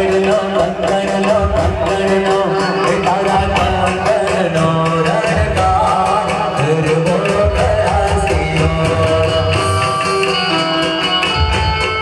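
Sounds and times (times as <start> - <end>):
person singing: 0.0 - 10.8.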